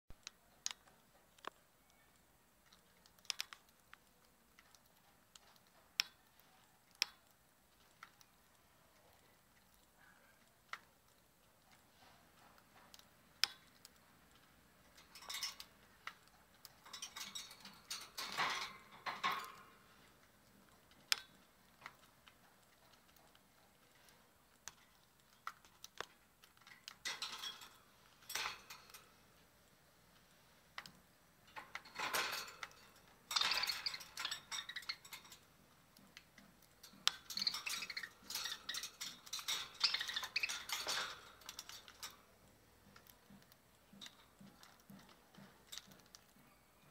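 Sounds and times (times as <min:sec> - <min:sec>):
beaks clicking on food dish: 0:00.2 - 0:29.1, 0:30.7 - 0:46.7.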